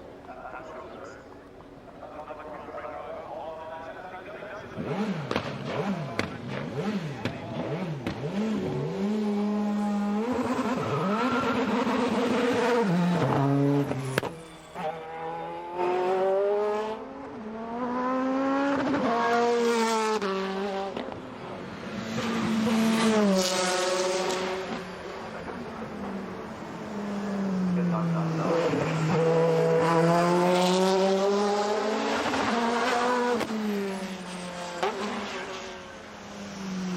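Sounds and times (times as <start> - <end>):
racing engine revving: 4.6 - 36.9.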